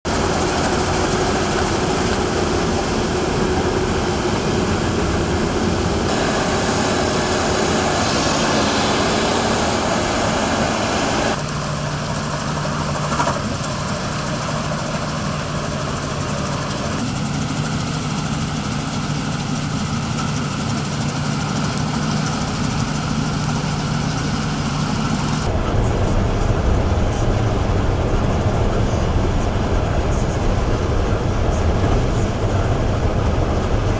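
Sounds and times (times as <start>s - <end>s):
heavy machinery engines humming: 0.1s - 33.9s.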